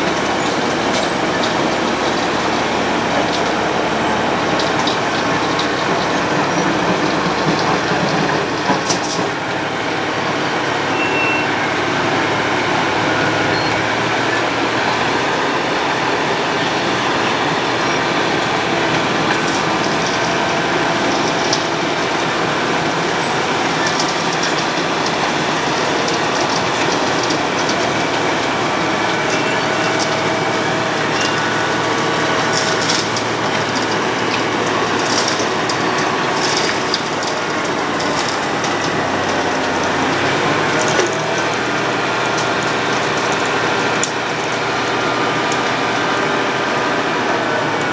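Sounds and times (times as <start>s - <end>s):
road planer milling asphalt: 0.0s - 47.9s.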